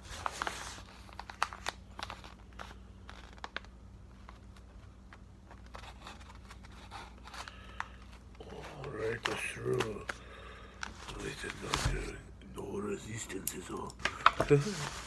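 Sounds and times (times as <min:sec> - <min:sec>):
packaging crinkling and rustling: 0:00.0 - 0:12.1, 0:14.0 - 0:15.0.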